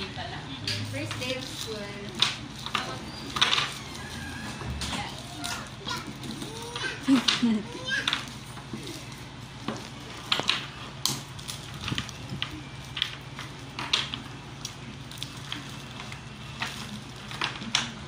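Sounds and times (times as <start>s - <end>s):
plastic bag crinkling: 0.8s - 18.0s.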